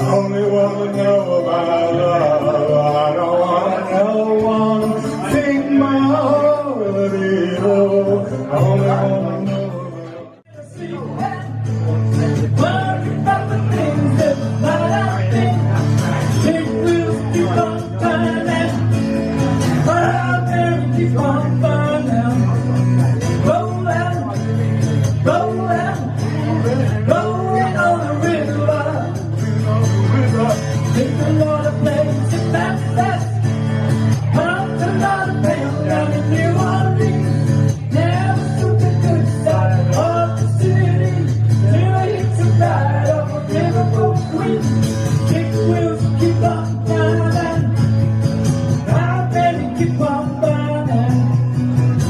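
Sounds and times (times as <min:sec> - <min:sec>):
acoustic guitar music: 0:00.0 - 0:52.0.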